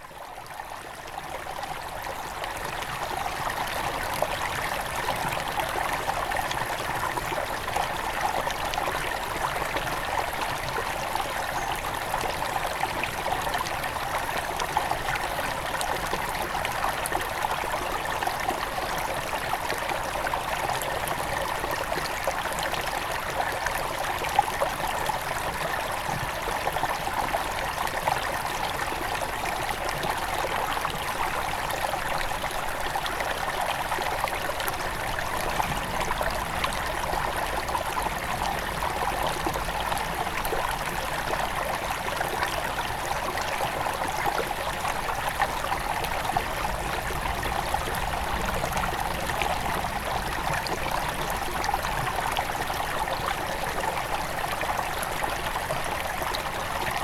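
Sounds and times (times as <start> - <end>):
river flowing over stones: 0.2 - 57.0.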